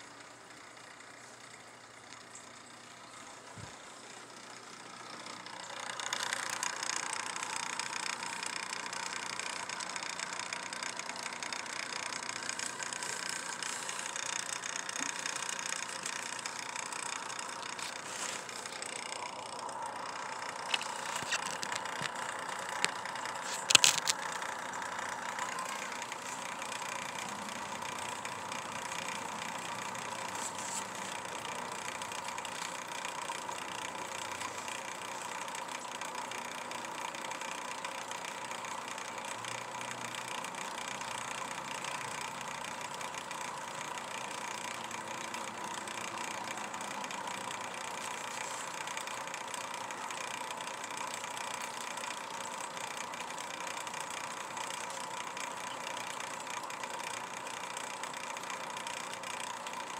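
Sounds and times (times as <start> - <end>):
motor running: 0.0 - 59.9.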